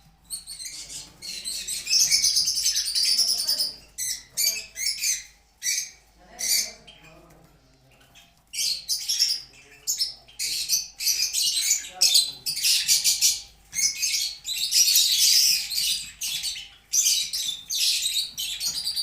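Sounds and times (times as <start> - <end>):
finches chirping and twittering: 0.0 - 19.0.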